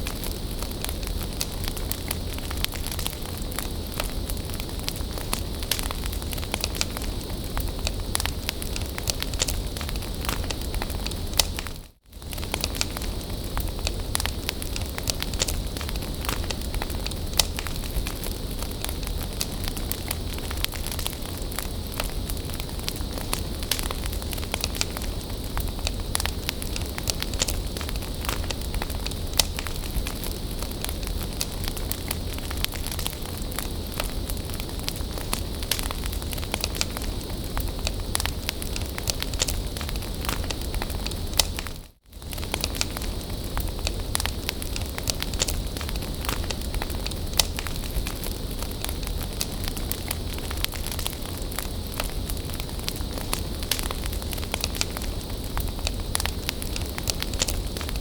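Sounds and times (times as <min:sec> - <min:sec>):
bonfire crackling and popping: 0:00.0 - 0:58.0.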